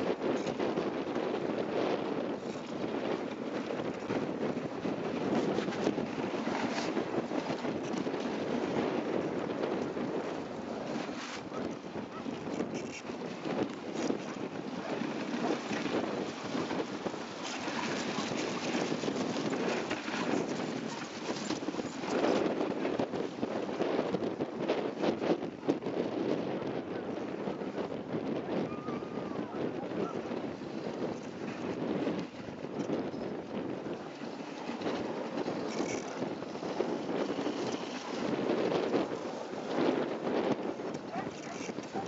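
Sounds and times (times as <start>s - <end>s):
sled runners crunching on snow: 0.0s - 25.3s, 29.4s - 42.0s
wind buffeting microphone: 0.0s - 42.0s.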